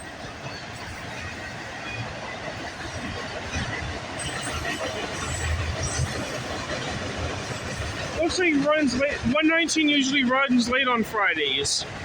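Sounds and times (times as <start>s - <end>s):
freight train rolling past: 0.0s - 12.0s
wheels rumbling on rail: 0.0s - 12.0s.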